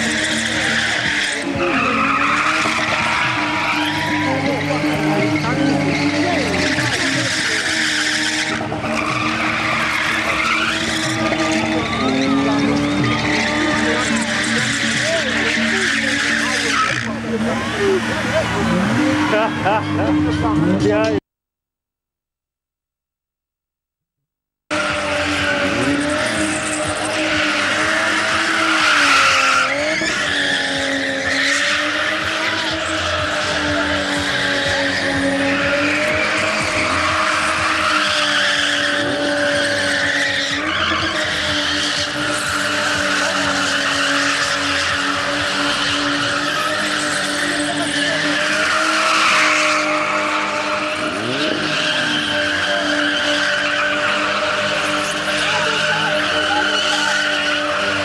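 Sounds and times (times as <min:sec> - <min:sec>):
car engine at high revs: 0:00.0 - 0:21.2, 0:24.7 - 0:58.0
tyres screeching: 0:00.0 - 0:21.2, 0:24.7 - 0:58.0.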